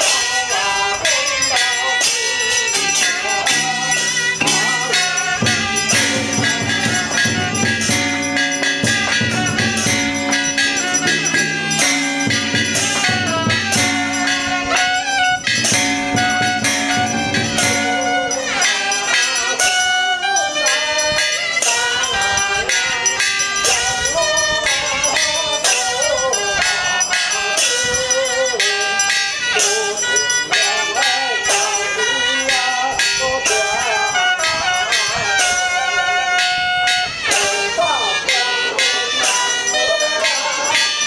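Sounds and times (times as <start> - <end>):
quick repeated percussion strikes: 0.0 - 41.0
wavering ritual melody: 0.0 - 41.0.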